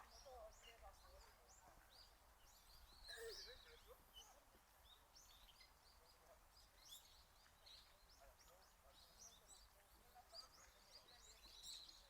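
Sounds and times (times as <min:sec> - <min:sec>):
quiet outdoor ambience: 0:00.0 - 0:12.0.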